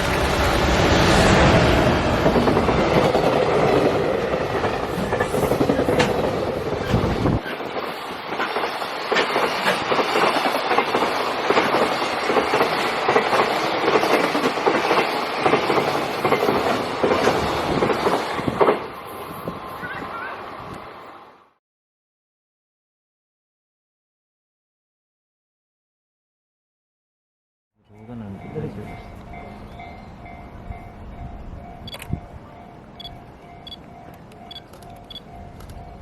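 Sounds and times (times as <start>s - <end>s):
freight train rumble: 0.0s - 21.4s, 27.9s - 36.0s.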